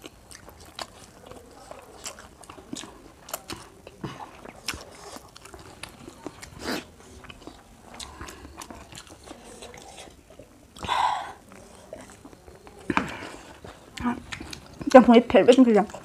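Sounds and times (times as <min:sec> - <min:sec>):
crunchy chewing: 0:00.0 - 0:16.0.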